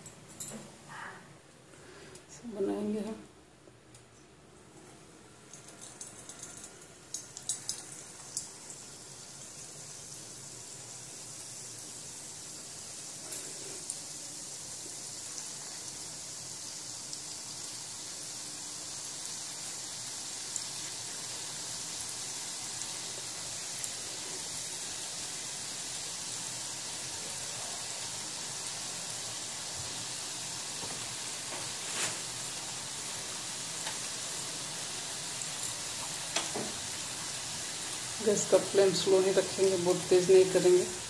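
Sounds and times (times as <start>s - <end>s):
batter sizzling in hot oil: 5.3s - 41.0s.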